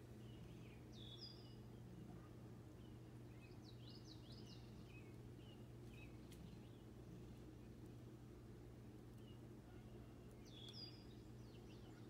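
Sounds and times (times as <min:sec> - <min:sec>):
low steady hum: 0:00.0 - 0:12.0
faint bird chirps: 0:00.1 - 0:06.9, 0:09.1 - 0:12.0.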